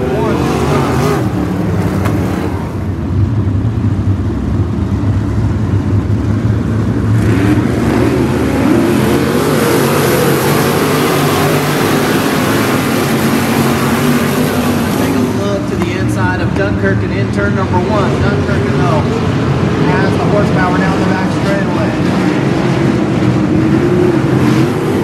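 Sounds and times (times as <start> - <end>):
race car engines roaring: 0.0 - 25.0.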